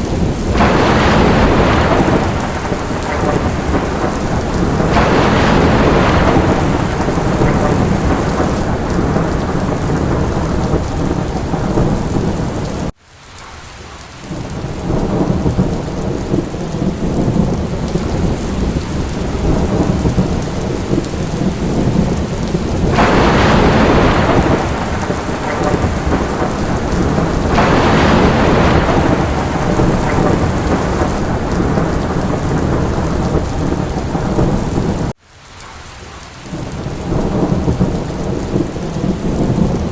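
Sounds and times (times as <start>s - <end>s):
low thunder rumbling: 0.0s - 13.0s, 14.3s - 35.2s, 36.5s - 39.9s
heavy rain: 0.0s - 39.9s.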